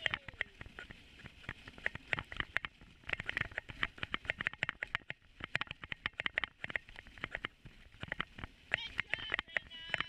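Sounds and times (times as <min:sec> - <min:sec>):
dog sled rattling and creaking: 0:00.0 - 0:10.0.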